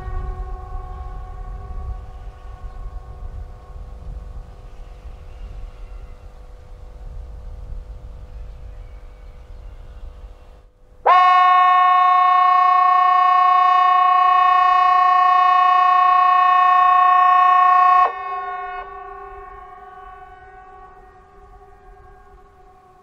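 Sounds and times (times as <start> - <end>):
distant horns tone: 0.0 - 7.2, 8.2 - 23.0
warning horn steady tone: 0.0 - 23.0.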